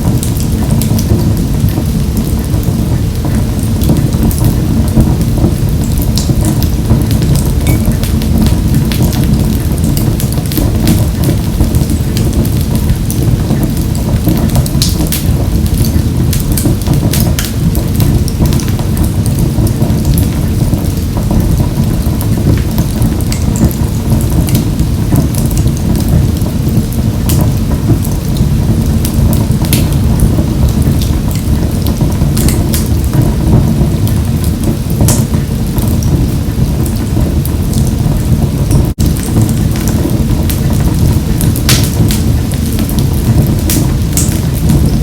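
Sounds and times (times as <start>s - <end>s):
low rumble of burning fire: 0.0s - 45.0s
wood stove fire crackling: 0.0s - 45.0s.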